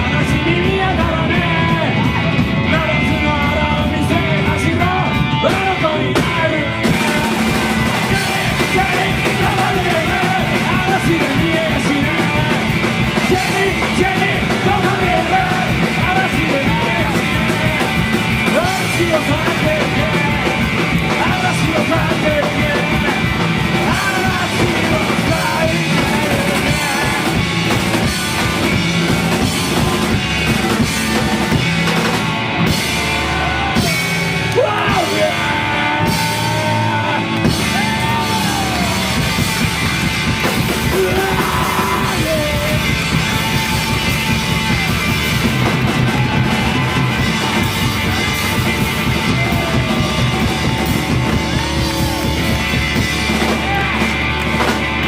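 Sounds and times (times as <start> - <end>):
punk rock band playing: 0.0 - 55.0
shouted vocals: 0.0 - 55.0.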